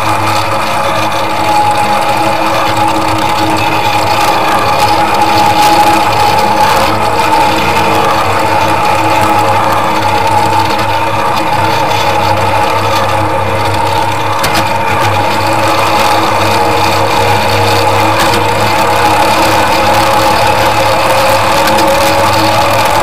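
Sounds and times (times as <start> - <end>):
miniature locomotive engine drone: 0.0 - 23.0.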